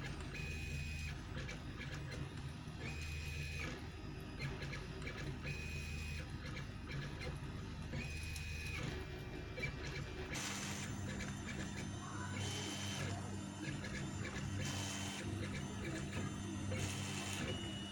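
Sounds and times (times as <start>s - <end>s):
printer stepper motors buzzing: 0.0s - 17.9s.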